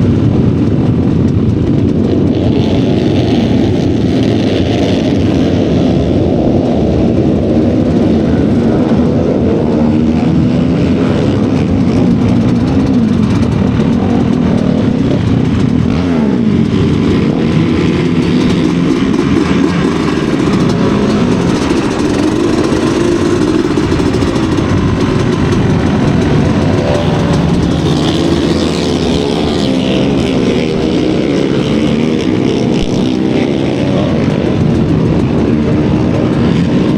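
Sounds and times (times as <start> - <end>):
racing motorcycle engines revving: 0.0 - 36.9.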